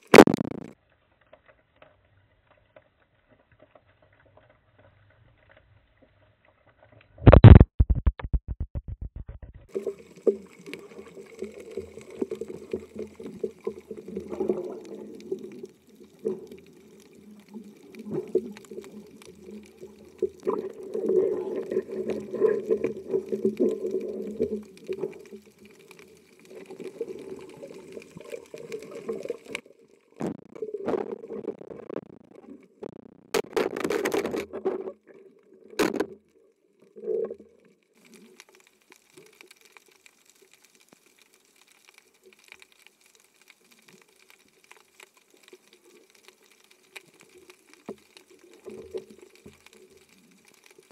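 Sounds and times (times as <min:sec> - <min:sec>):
muffled underwater rushing water: 0:09.0 - 0:50.9.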